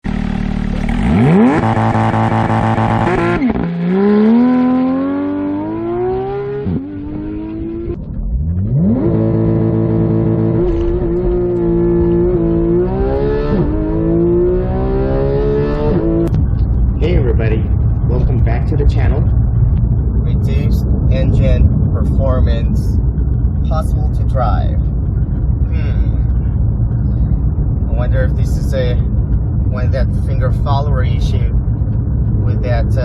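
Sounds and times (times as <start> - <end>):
sports car engine accelerating: 0.0 - 33.0.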